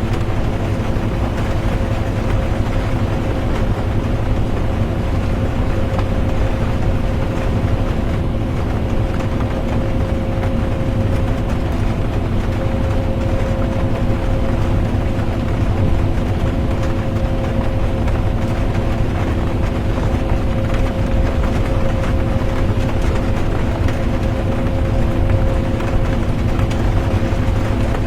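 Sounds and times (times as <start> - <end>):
bus engine and road rumble: 0.0 - 28.0
mid-pitched hum: 0.0 - 28.0.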